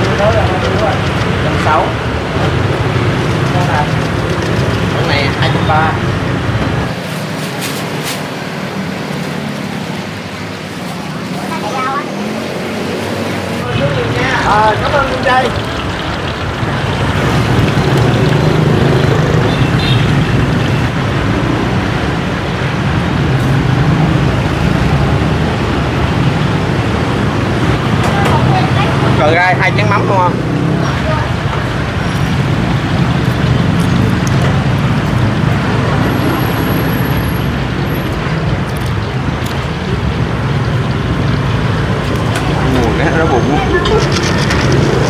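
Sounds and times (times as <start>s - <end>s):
street traffic: 0.0s - 45.0s.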